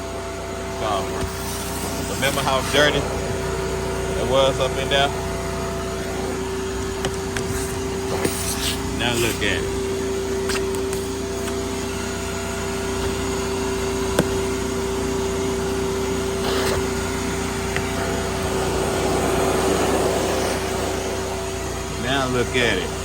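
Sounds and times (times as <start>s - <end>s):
motor hum with steady tone: 0.0s - 23.0s.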